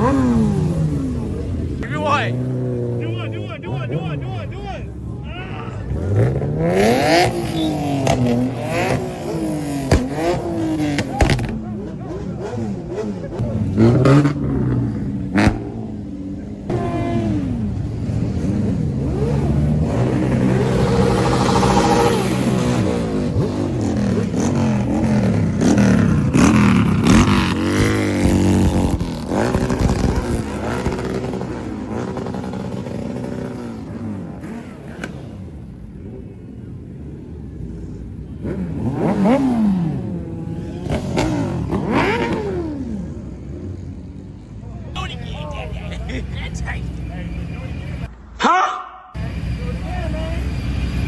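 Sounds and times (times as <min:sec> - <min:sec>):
car engines revving: 0:00.0 - 0:48.3, 0:49.2 - 0:51.0.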